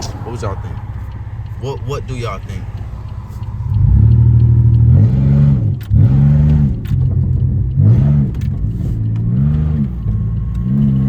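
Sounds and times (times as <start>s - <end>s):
car engine revving: 0.0s - 11.0s
exhaust cracks: 0.0s - 11.0s.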